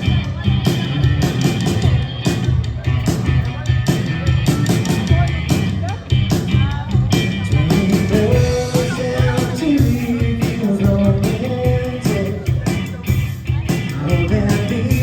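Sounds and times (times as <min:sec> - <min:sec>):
bass guitar: 0:00.0 - 0:15.0
drums: 0:00.0 - 0:15.0
electric guitar melody: 0:00.0 - 0:15.0.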